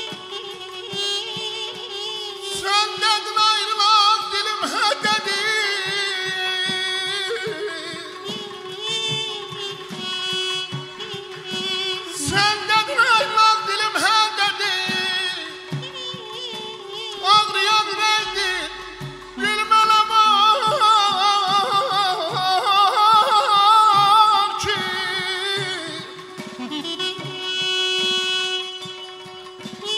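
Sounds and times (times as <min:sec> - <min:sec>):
plucked saz with drone: 0:00.0 - 0:29.9
man singing ornamented vocals: 0:02.0 - 0:29.9.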